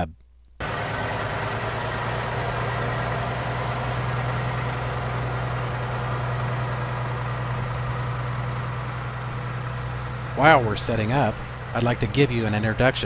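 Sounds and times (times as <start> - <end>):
truck diesel engine running: 0.6 - 13.0.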